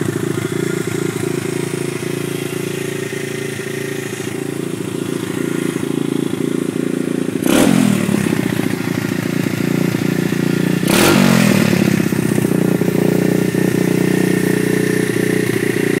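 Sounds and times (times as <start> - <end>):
engine throttle blips: 0.0 - 16.0
pit bike engine running: 0.0 - 16.0.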